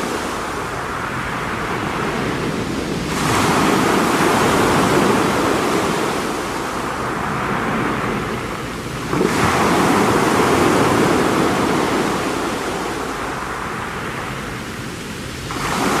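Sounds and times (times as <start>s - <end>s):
sea waves on rocky shore: 0.0s - 16.0s.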